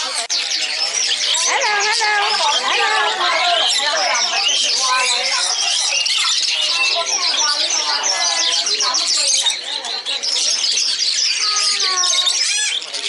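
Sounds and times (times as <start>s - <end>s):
bird trill: 0.0s - 13.0s
songbirds chirping and twittering: 0.0s - 13.0s.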